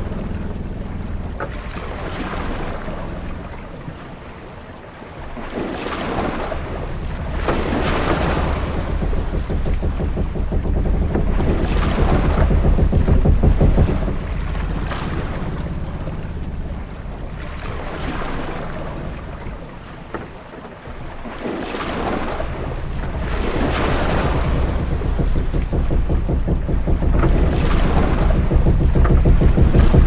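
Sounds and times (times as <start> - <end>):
deep rumble: 0.0 - 3.8, 6.2 - 30.0
waves washing against ship: 0.0 - 30.0.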